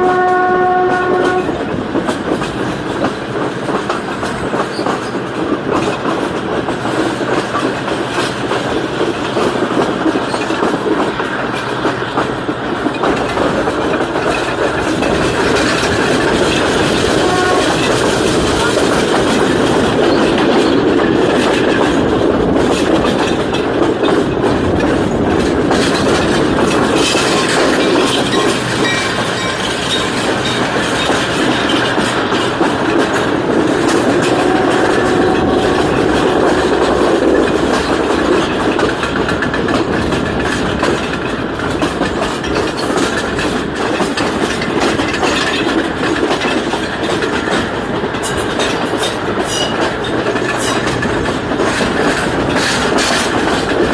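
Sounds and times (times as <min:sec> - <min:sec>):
train carriages rumbling: 0:00.0 - 0:53.9
wheels clicking over rail joints: 0:00.0 - 0:53.9.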